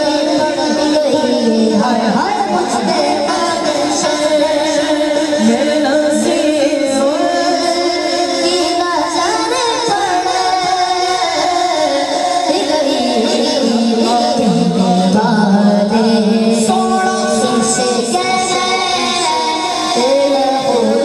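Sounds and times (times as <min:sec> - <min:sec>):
boy singing into a microphone: 0:00.0 - 0:21.0.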